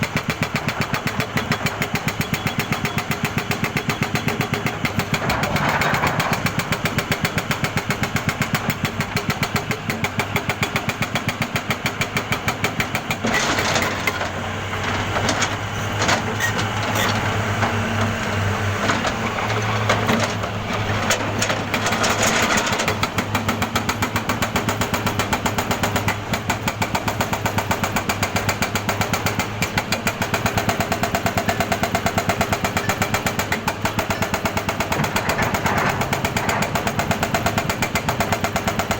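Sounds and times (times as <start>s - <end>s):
jackhammer pounding: 0.0s - 38.9s.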